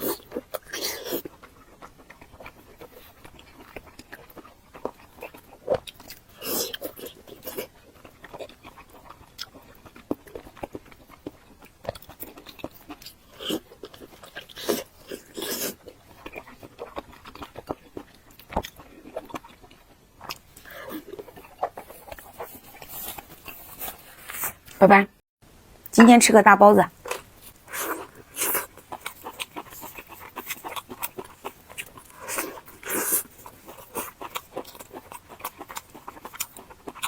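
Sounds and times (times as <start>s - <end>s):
biting and chewing: 0.0s - 24.8s, 27.0s - 37.0s.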